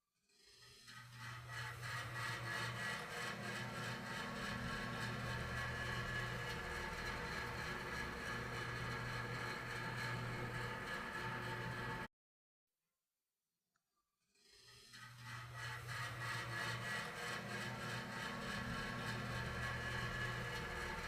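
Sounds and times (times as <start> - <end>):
machine whirring hum: 0.9 - 12.1, 14.9 - 21.0.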